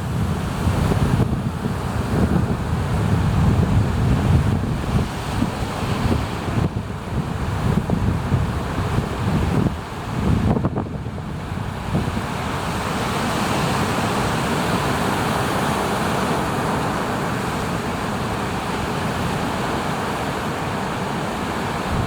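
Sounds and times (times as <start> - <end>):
heavy surf breaking waves: 0.0 - 22.0.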